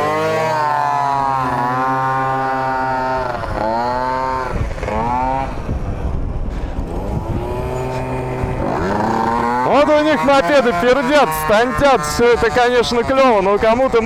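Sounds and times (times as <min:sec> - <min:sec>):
scooter engines revving: 0:00.0 - 0:14.0
wind rumble on microphone: 0:01.0 - 0:14.0.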